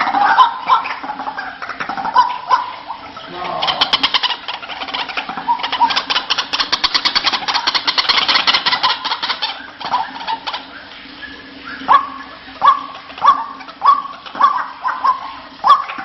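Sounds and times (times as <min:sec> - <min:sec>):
waterhen calling: 0:00.0 - 0:16.0.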